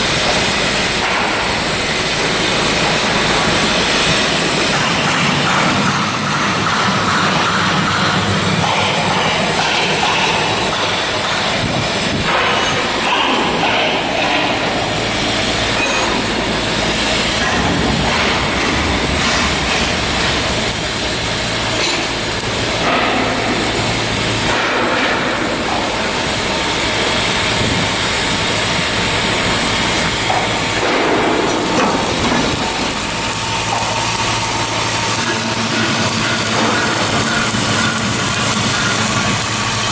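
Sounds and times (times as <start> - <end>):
dense clatter and hiss: 0.0 - 39.9
low machine hum: 0.0 - 39.9.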